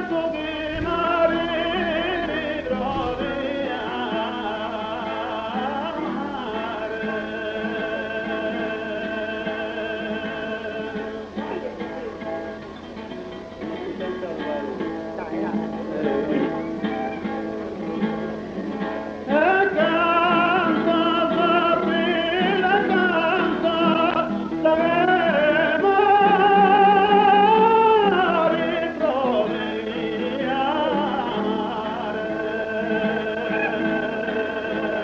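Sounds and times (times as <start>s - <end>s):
acoustic guitar playing: 0.0s - 35.0s.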